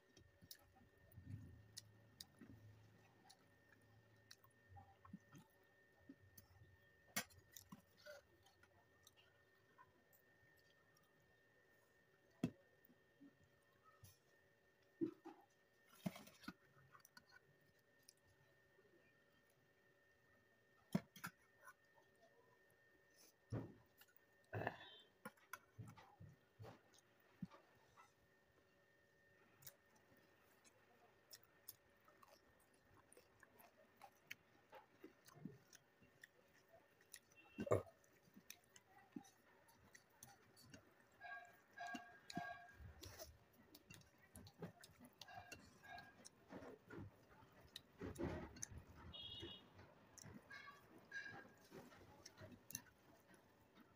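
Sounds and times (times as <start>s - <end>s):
soft chewing and lip smacks: 0.0s - 19.8s, 20.7s - 53.9s.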